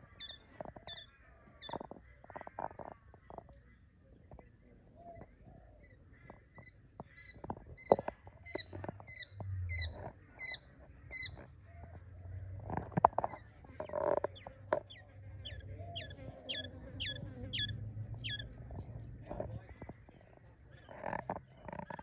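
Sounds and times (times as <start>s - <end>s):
quail chicks peeping: 0.0s - 22.0s.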